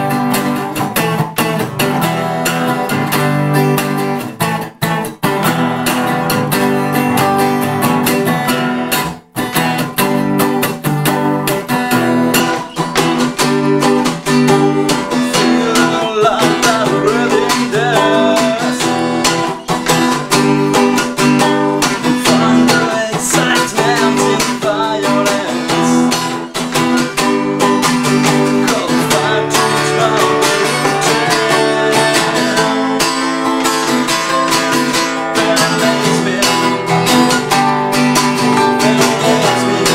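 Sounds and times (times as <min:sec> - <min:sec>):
acoustic guitars strumming: 0:00.0 - 0:39.9.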